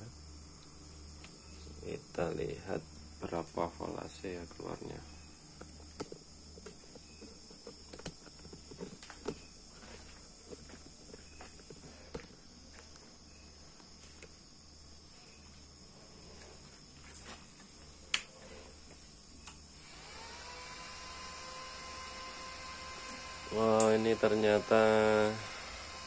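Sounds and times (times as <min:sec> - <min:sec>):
faint high test tone whine: 0:00.0 - 0:26.0.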